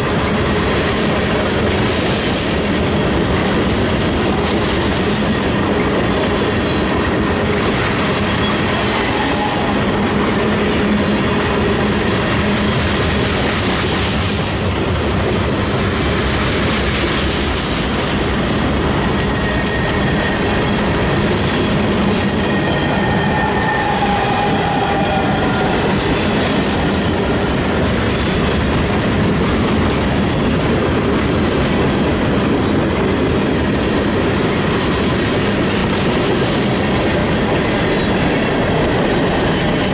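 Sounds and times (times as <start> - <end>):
train wheels clacking over rails: 0.0 - 39.9.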